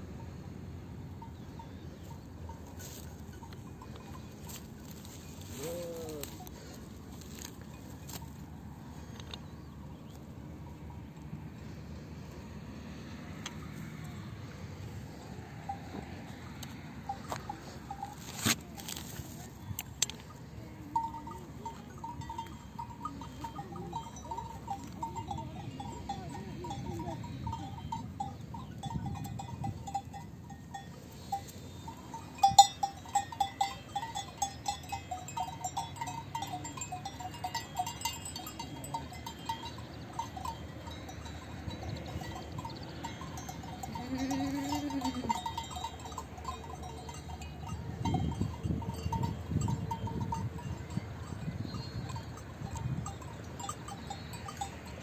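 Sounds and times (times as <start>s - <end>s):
livestock bells clinking: 0.0s - 55.0s.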